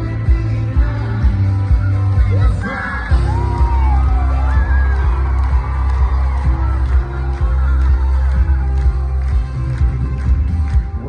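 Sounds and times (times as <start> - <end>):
crowd cheering and whooping: 1.6 - 10.7.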